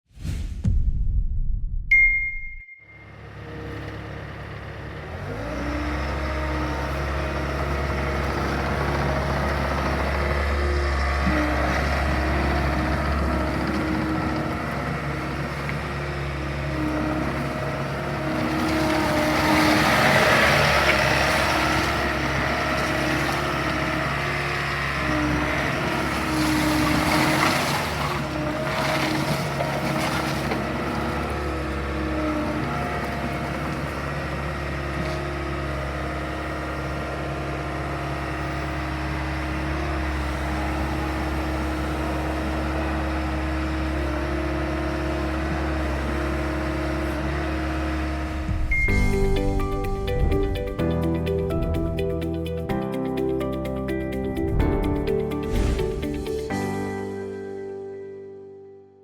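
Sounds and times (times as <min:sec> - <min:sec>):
diesel engine running and revving: 0:03.0 - 0:56.7.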